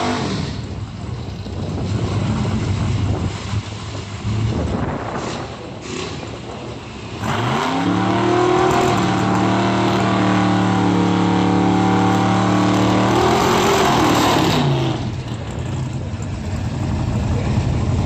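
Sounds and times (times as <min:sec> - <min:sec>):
drag car engine revving: 0:00.0 - 0:18.0.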